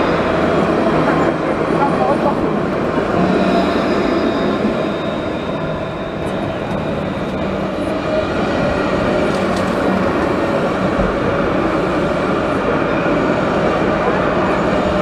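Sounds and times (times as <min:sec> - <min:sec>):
tram running past: 0:00.0 - 0:15.0.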